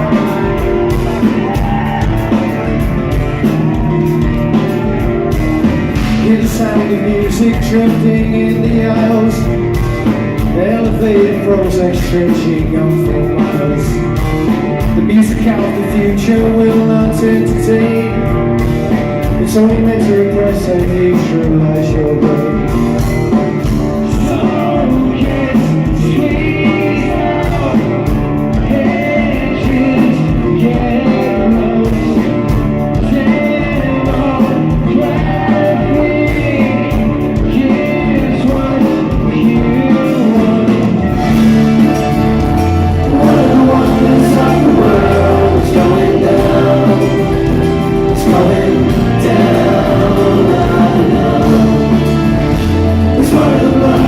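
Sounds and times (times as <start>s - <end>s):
bass guitar: 0.0s - 54.0s
person singing: 0.0s - 54.0s
rock guitars: 0.0s - 54.0s.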